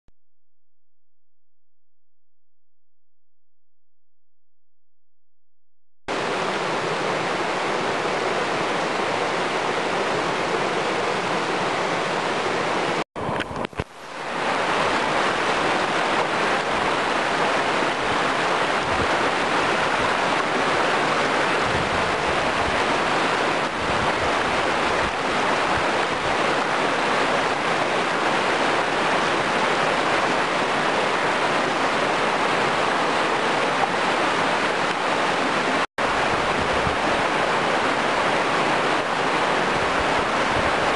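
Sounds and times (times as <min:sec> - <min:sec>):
river water rushing: 0:06.1 - 0:40.9.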